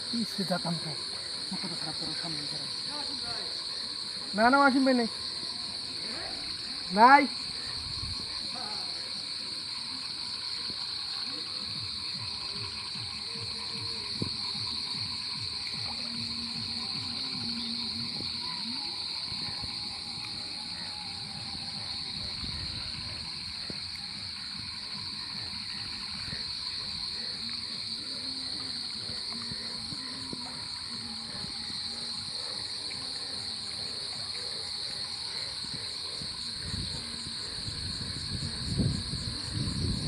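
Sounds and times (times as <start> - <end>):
crickets and insects trilling: 0.0 - 40.0.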